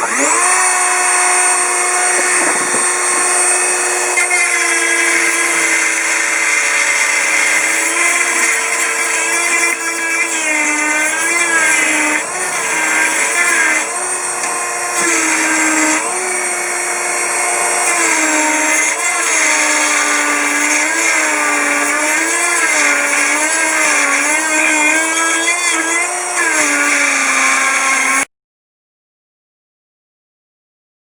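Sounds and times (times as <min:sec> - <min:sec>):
power tool motor running: 0:00.0 - 0:28.3.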